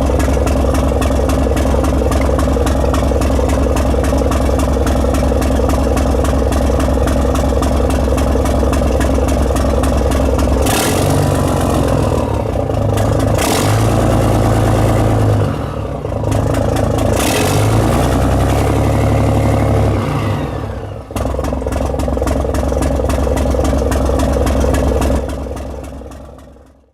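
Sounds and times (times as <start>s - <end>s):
marine diesel engine revving: 0.0s - 26.2s.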